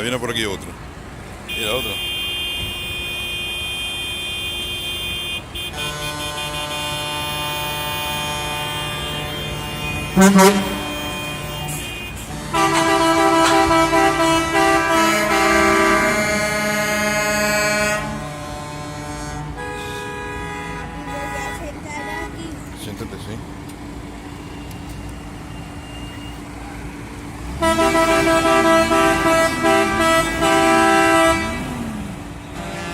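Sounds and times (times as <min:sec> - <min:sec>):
truck air horns blasting: 0:01.5 - 0:22.6, 0:27.4 - 0:32.9.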